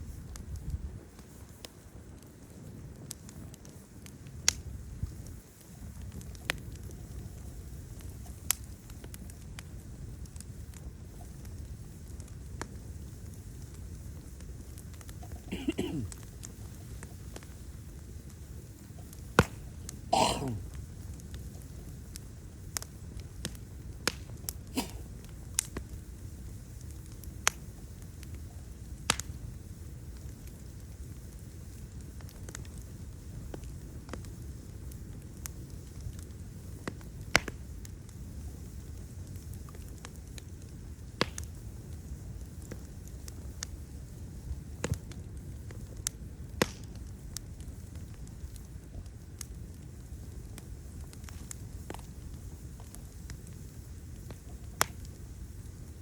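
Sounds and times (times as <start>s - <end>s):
low rumble of burning: 0.0s - 56.0s
sharp pops of fire: 0.0s - 56.0s
wood fire crackling: 0.0s - 56.0s.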